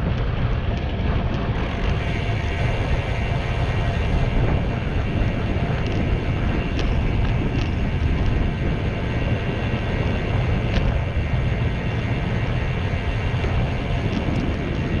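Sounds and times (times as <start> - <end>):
bicycle tyre noise on pavement: 0.0 - 15.0
wind rushing over microphone: 0.0 - 15.0.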